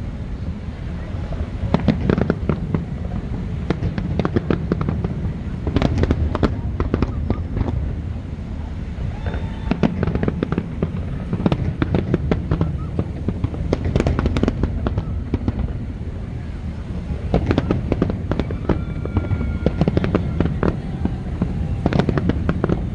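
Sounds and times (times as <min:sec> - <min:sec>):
fireworks bangs and crackles: 0:00.0 - 0:22.9.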